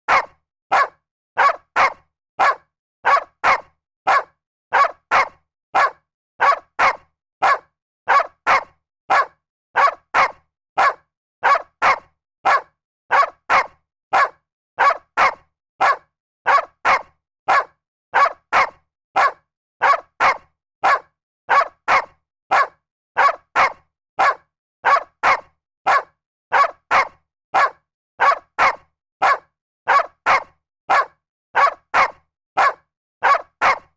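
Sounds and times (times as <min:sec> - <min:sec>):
dog barking: 0:00.1 - 0:33.9.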